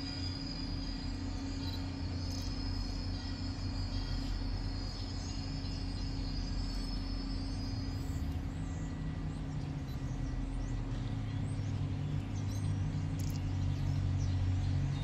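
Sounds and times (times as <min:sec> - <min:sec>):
distant train drone: 0:00.0 - 0:15.0
faint bird chirps: 0:00.0 - 0:15.0.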